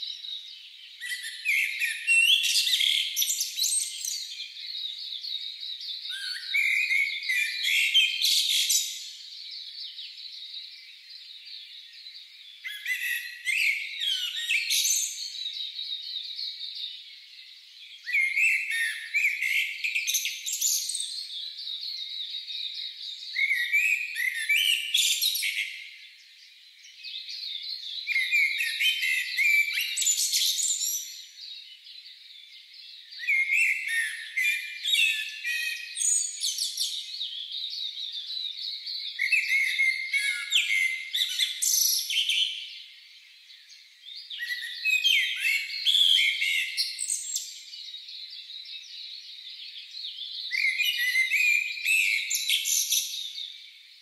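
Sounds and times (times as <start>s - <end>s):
faint background birdsong: 0.0s - 54.0s.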